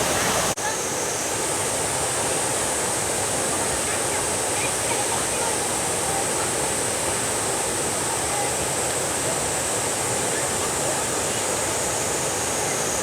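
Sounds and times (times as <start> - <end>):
waterfall and rapids rushing: 0.0 - 13.0.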